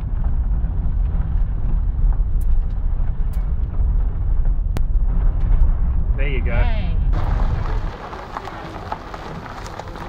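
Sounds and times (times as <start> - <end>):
road and drivetrain rumble in car: 0.0 - 10.0.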